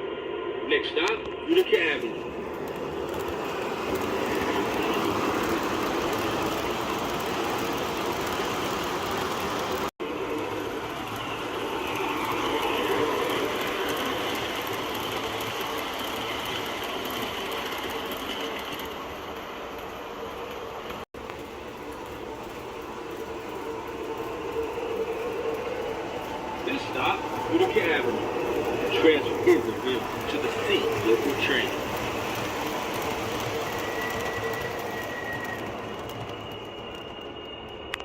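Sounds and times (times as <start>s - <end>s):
model train running hum: 0.0s - 38.0s.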